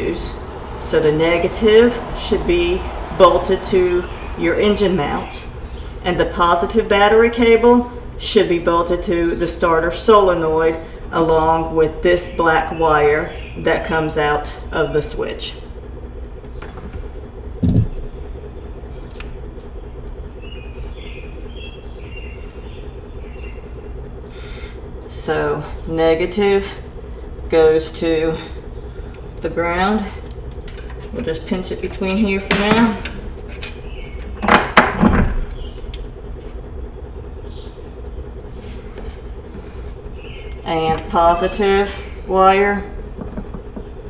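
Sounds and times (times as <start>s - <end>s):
low background rumble: 0.0s - 44.0s
steady low hum: 0.0s - 44.0s.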